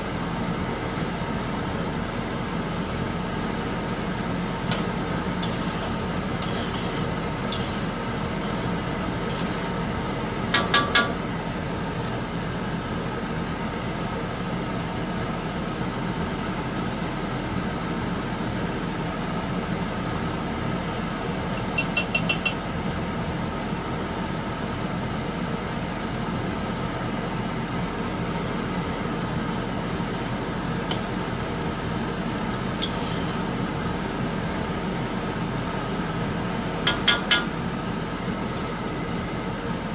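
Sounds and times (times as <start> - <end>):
simmering hum in a wok: 0.0 - 39.9.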